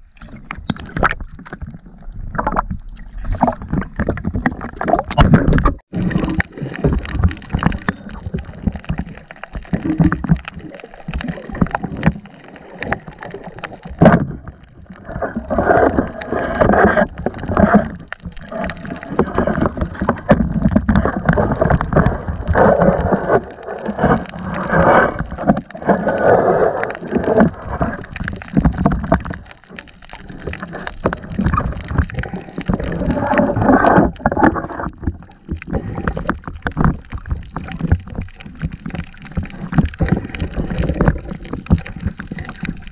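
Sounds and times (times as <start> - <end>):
muffled underwater water sloshing: 0.0 - 42.9.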